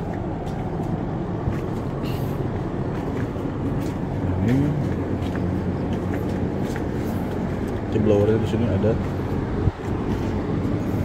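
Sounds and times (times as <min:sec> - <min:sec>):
exhaust blowers humming: 0:00.0 - 0:11.0.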